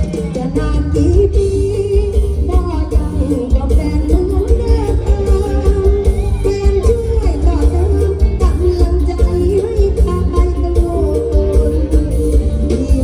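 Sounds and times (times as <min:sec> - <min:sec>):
band music through loudspeakers: 0:00.0 - 0:13.0
woman singing: 0:00.0 - 0:13.0.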